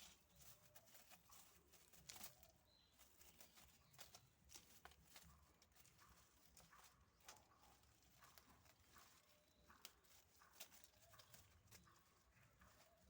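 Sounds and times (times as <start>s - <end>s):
kittens tapping and scuffling: 0.0s - 13.0s.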